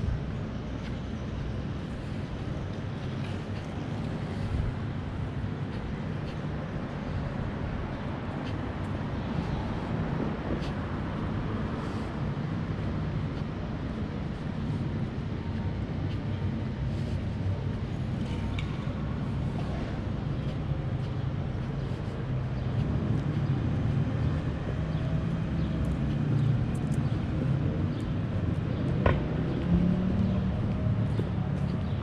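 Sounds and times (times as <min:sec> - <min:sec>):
street traffic rumble: 0:00.0 - 0:32.0.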